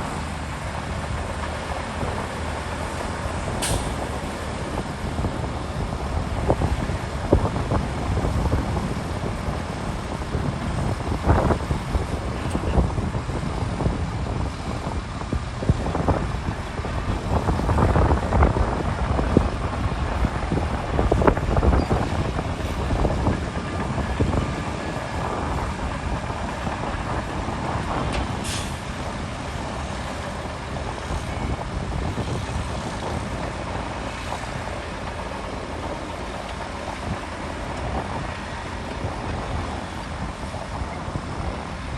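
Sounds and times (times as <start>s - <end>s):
heavy diesel machinery working: 0.0s - 41.9s.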